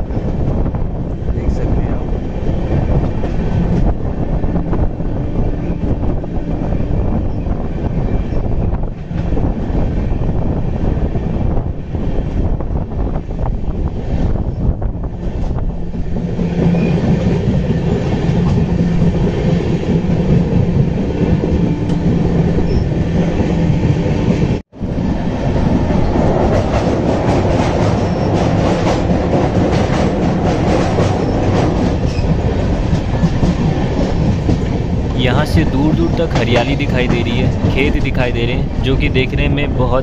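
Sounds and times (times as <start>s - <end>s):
train rumbling at speed: 0.0s - 40.0s.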